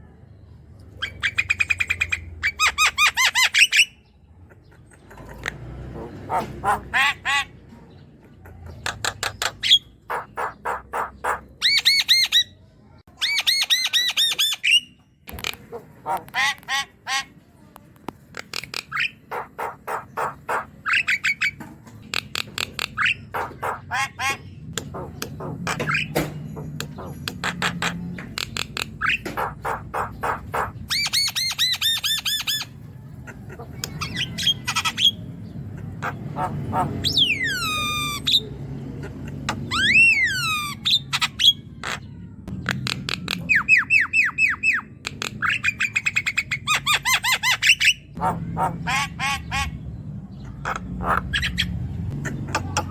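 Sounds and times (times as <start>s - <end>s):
bird harsh chattering song: 0.9s - 52.9s.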